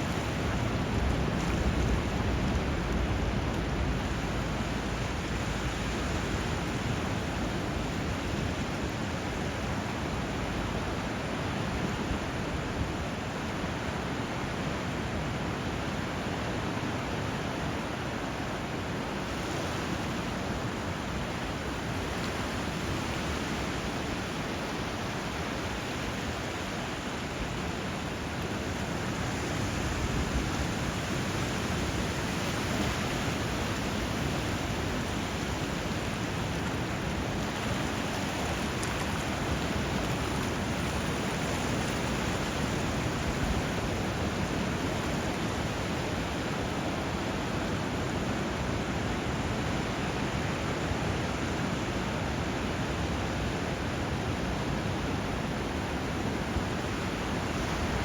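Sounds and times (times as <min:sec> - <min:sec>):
river current rushing: 0:00.0 - 0:58.0.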